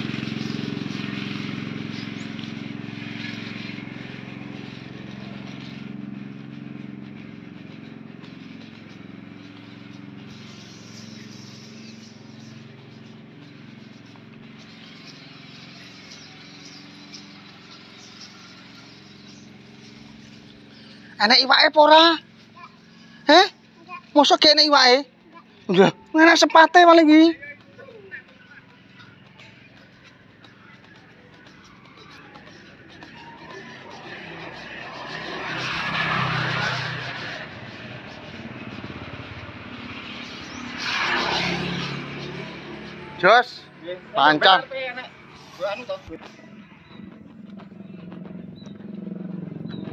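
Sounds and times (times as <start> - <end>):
engine humming: 0.0 - 49.9.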